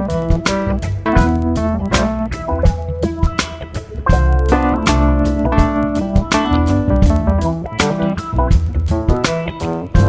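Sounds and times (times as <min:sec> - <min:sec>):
instrumental guitar music with beat: 0:00.0 - 0:10.0.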